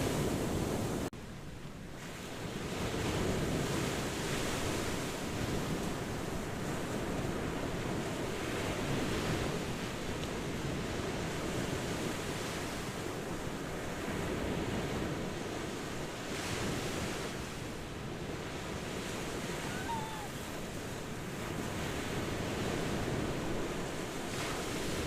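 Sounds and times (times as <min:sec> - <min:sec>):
ocean waves washing on shore: 0:00.0 - 0:25.0.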